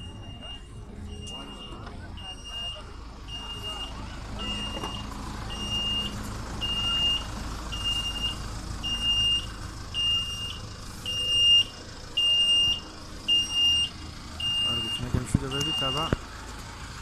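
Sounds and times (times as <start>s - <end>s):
reversing beeper: 0.0s - 16.2s
low traffic rumble: 0.0s - 17.0s.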